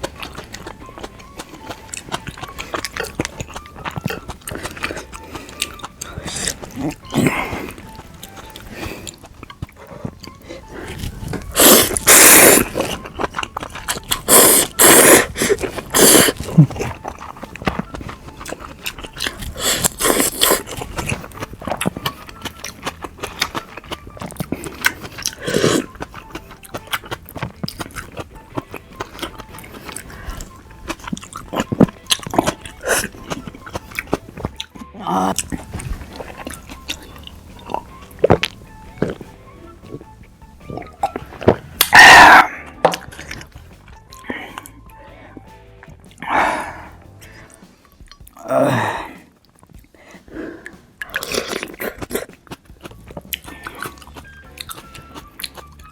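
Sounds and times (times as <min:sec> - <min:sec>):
chewing and mouth clicks: 0:00.0 - 0:48.4, 0:49.4 - 0:55.9.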